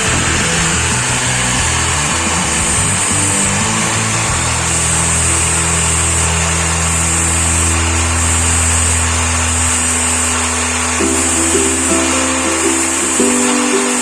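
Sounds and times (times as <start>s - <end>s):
angle grinder running: 0.0s - 14.0s
background music: 0.0s - 14.0s.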